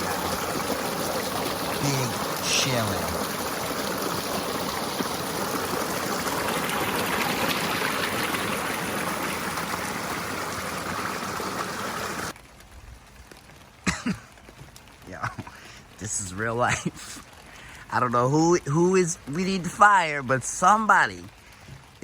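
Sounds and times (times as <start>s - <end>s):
river water trickling: 0.0s - 12.6s, 13.3s - 22.0s.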